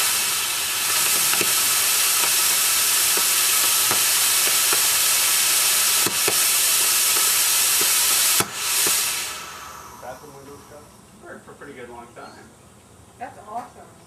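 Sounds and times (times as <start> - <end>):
rocket motor hissing and crackling: 0.0 - 11.9.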